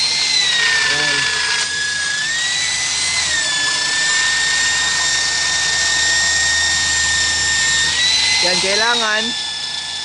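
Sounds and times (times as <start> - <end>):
electric drill whining: 0.0 - 10.0.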